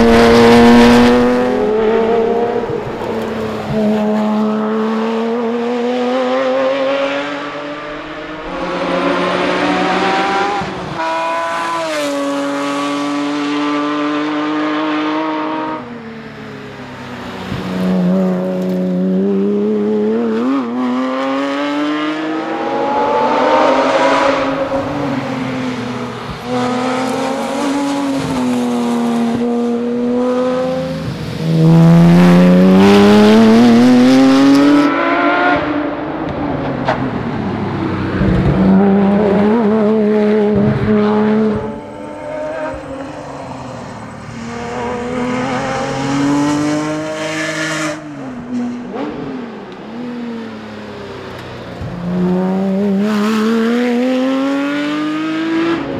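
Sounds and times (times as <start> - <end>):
car engine accelerating hard: 0.0 - 15.9, 17.5 - 50.6.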